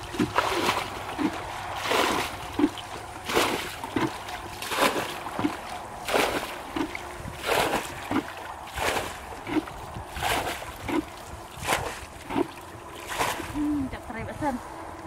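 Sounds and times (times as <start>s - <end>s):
bucket scooping water: 0.0s - 13.8s
water splashing: 0.0s - 14.1s.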